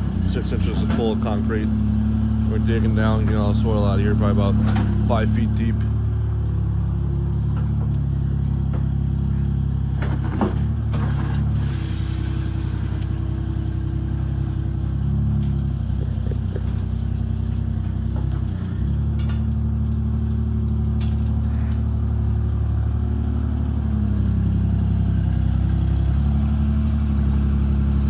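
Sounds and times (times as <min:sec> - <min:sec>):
digger engine running: 0:00.0 - 0:28.0.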